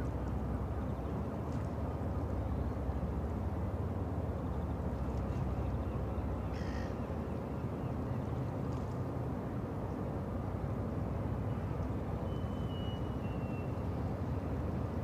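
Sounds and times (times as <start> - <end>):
ship engine low rumble: 0.0 - 15.0.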